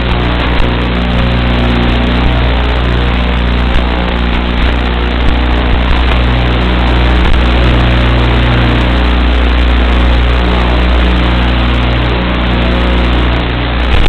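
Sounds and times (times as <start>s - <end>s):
low drone with hiss: 0.0s - 14.0s.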